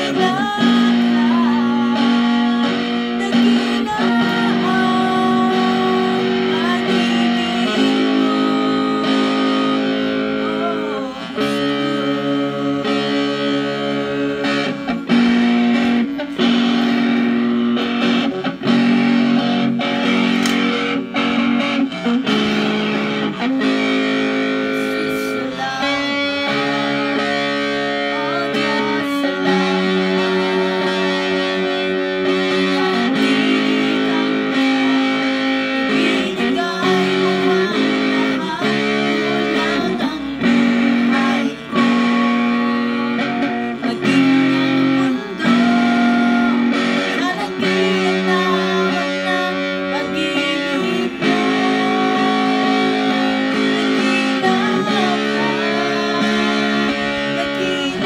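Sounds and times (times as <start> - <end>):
woman singing worship song: 0.0 - 21.0, 22.5 - 58.0
electric guitar chords: 0.0 - 58.0.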